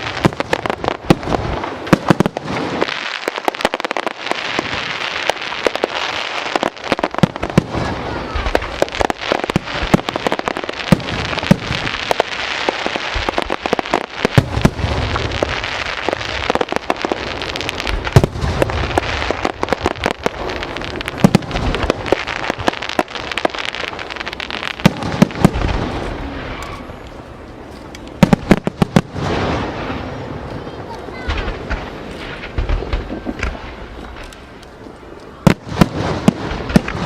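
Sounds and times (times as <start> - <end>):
deep firework booms: 0.0 - 5.9, 6.7 - 26.8, 28.2 - 30.5, 31.1 - 34.3, 35.4 - 37.0
fireworks crackling: 0.0 - 37.0.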